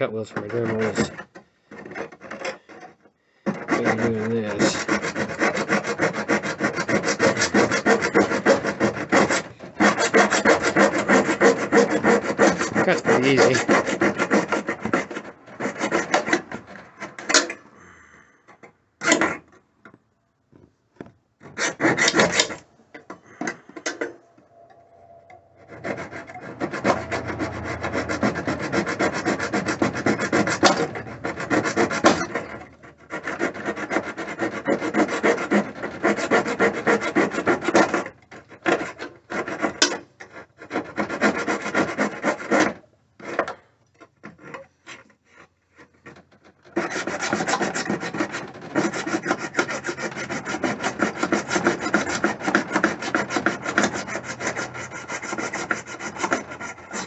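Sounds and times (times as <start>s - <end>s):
metal tool scraping: 0.1s - 19.6s, 21.4s - 57.0s.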